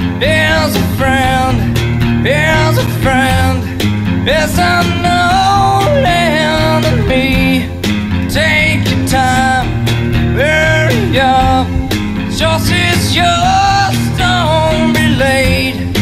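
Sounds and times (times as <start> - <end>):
guitar: 0.0 - 16.0
person singing: 0.0 - 16.0
steady bass line: 0.0 - 16.0.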